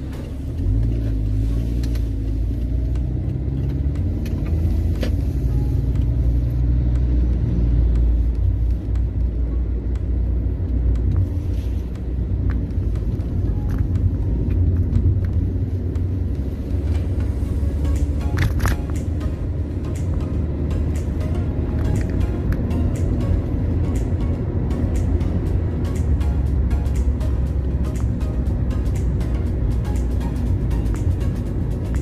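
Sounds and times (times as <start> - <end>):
car engine rumble: 0.0 - 32.0
road noise inside car: 0.0 - 32.0.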